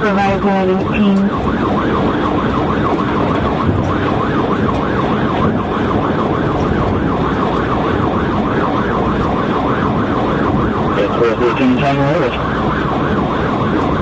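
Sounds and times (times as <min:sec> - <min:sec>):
police siren yelping: 0:00.0 - 0:14.0
road and engine noise: 0:00.0 - 0:14.0.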